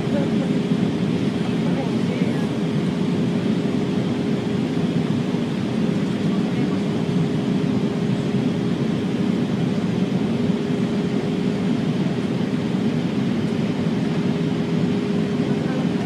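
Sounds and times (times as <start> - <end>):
constant hum: 0.0 - 16.0
engine and airflow rush: 0.0 - 16.0.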